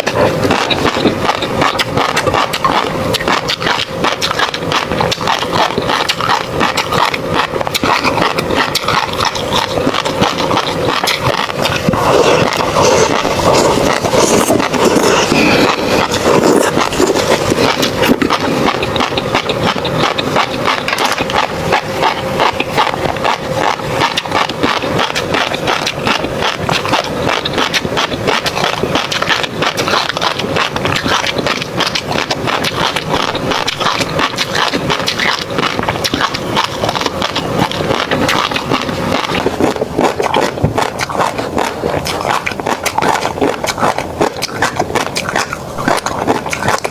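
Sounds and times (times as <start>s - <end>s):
chewing fish roe with tiny pops: 0.0s - 46.9s.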